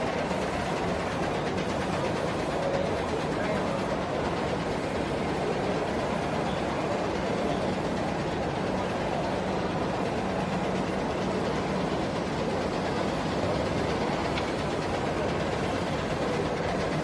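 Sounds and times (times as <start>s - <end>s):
cooling fans: 0.0s - 17.0s
printer machinery whirring: 0.0s - 17.0s.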